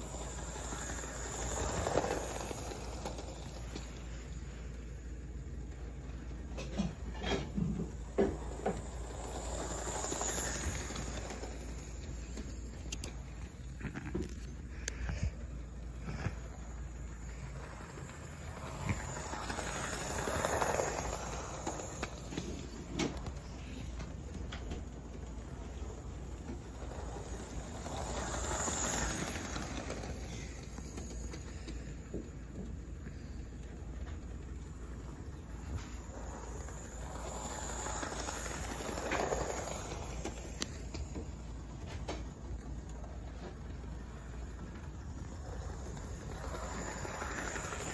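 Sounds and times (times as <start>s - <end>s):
toy train motor and wheels rattling: 0.0s - 47.9s.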